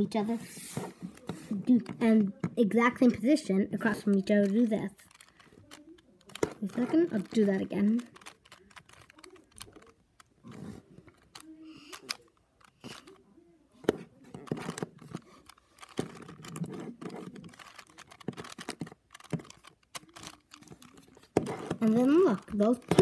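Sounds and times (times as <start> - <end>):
puzzle cube turning clicks: 3.8 - 13.3, 13.9 - 23.0.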